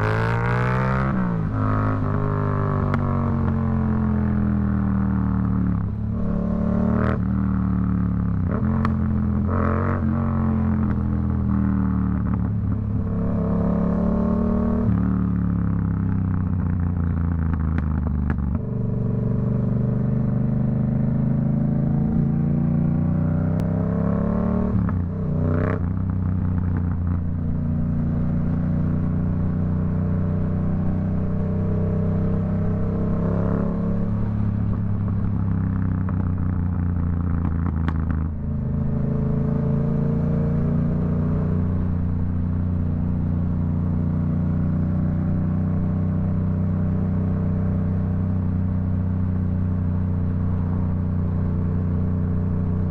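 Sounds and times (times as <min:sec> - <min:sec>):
motorcycle engine revving through gears: 0:00.0 - 0:52.9.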